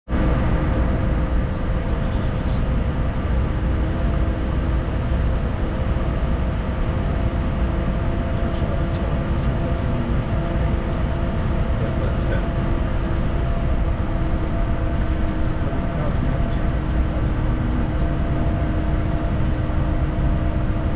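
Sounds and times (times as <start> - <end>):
deep rumble: 0.1 - 20.9
jet engines humming: 0.1 - 20.9.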